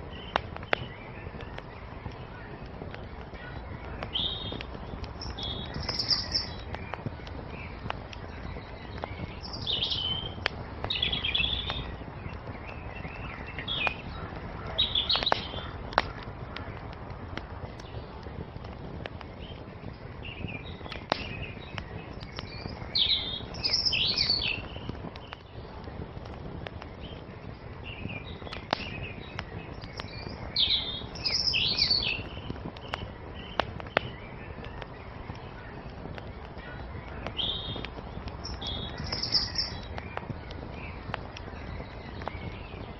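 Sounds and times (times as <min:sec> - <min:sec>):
songbirds chirping: 0:00.0 - 0:42.9
wood fire crackling and popping: 0:00.0 - 0:42.9.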